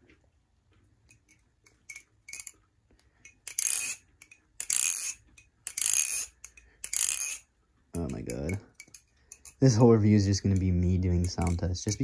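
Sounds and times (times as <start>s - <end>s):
butterfly knife handles clacking: 1.1s - 2.6s, 3.2s - 12.0s.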